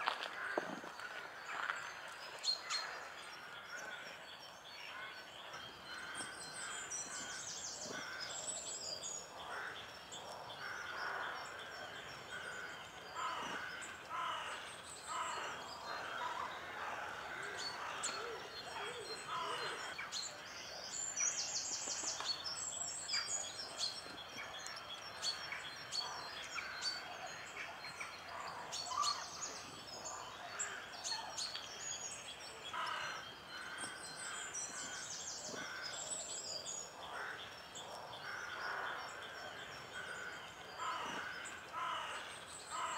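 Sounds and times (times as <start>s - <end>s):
small birds singing: 0.0s - 42.9s.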